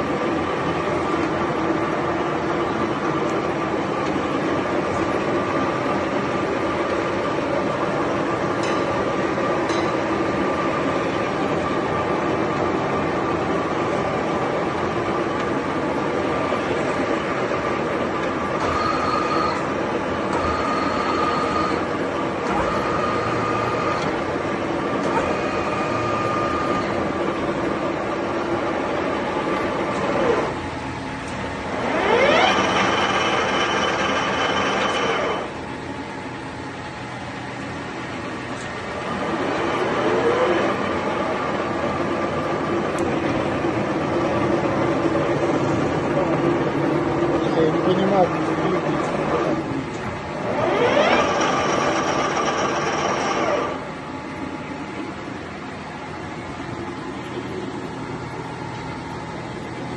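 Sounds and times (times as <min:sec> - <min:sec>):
lathe gear whine: 0:00.0 - 0:59.9.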